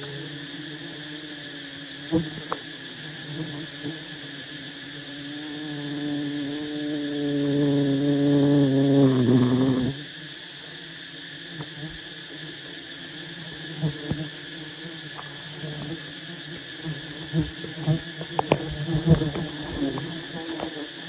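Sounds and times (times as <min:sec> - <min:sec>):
insect droning: 0:00.0 - 0:21.0.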